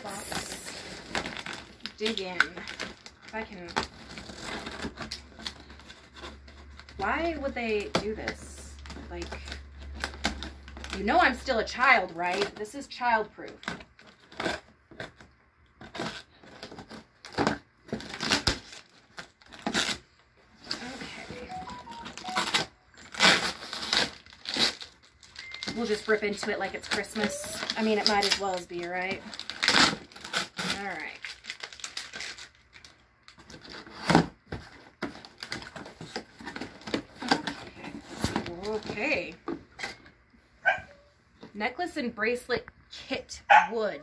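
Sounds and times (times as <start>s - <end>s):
packaging crinkling and tearing: 0.0s - 40.1s.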